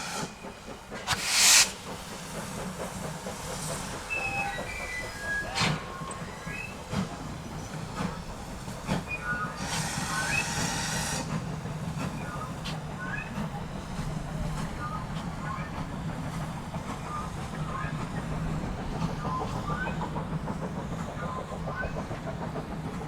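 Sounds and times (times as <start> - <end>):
steam hiss: 0.0 - 23.0.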